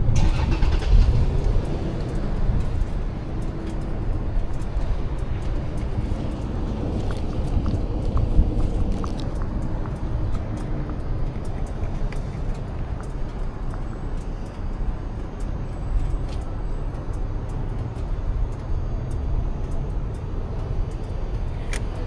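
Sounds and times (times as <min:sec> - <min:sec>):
motorcycle engine rumble: 0:00.0 - 0:18.5
wind buffeting microphone: 0:00.0 - 0:22.0.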